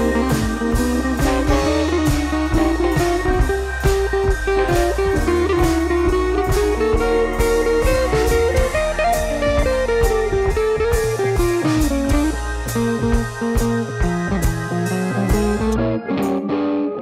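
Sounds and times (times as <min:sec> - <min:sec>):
steady drum beat: 0:00.0 - 0:15.8
bluesy guitar melody: 0:00.0 - 0:17.0.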